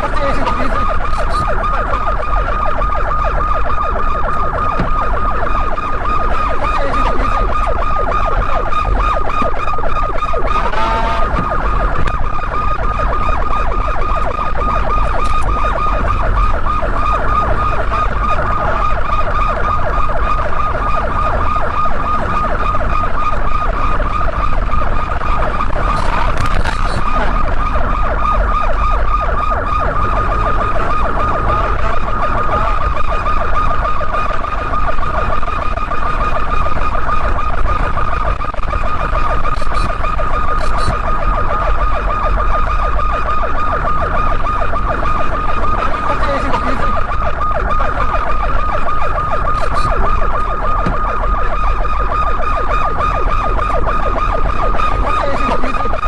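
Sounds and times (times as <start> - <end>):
car driving rumble: 0.0 - 56.0
police siren warbling: 0.0 - 56.0.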